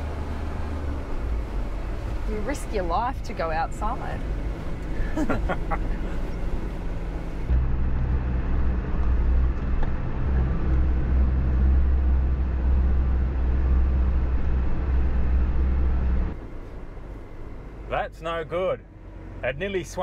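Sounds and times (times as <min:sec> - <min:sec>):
diesel truck engine droning: 0:00.0 - 0:20.0.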